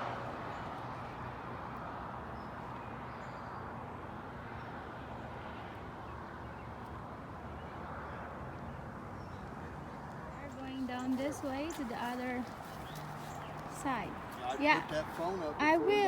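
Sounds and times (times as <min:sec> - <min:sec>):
outdoor wind rush: 0:00.0 - 0:16.0.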